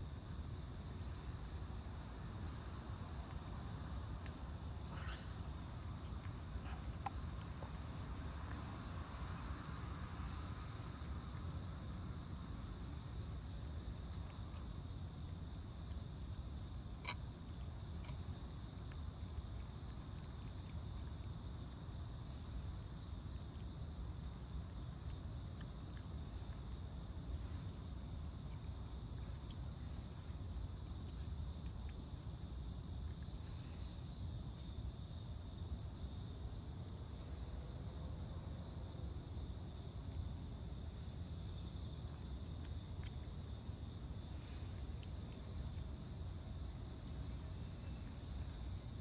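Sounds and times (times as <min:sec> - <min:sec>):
night insects trilling: 0:00.0 - 0:49.0.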